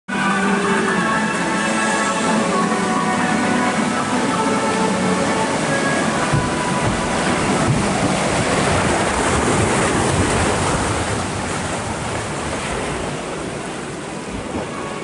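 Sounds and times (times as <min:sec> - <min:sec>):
water rushing in a flume: 0:00.1 - 0:15.0.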